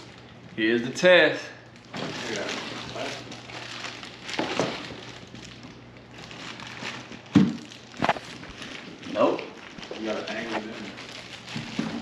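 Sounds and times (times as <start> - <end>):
plastic bag crinkling: 0.0 - 0.7, 1.6 - 12.0.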